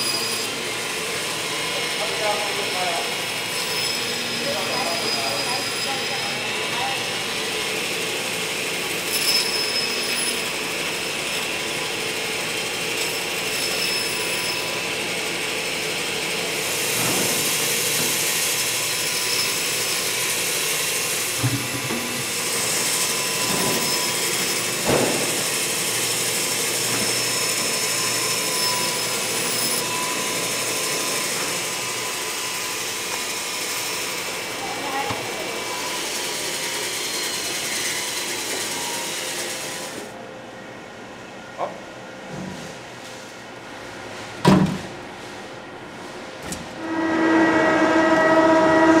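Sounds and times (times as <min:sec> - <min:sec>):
band saw cutting frozen meat: 0:00.0 - 0:40.1.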